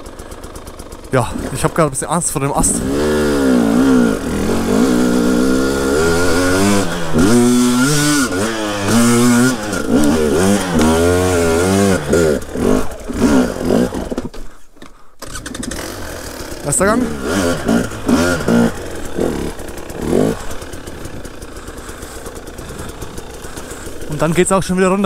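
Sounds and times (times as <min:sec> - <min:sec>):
two-stroke motorcycle engine revving: 0:00.0 - 0:14.5, 0:15.2 - 0:25.0.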